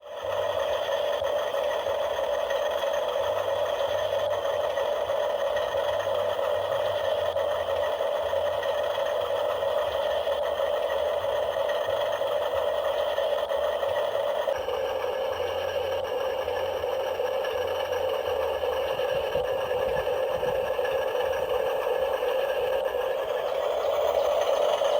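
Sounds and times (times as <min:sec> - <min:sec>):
small electric motor whirring: 0:00.0 - 0:24.9.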